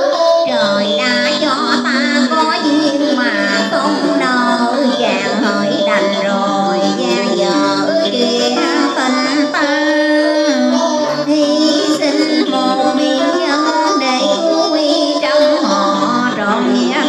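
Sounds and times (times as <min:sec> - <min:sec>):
instrumental accompaniment: 0:00.0 - 0:17.0
woman singing: 0:00.0 - 0:17.0.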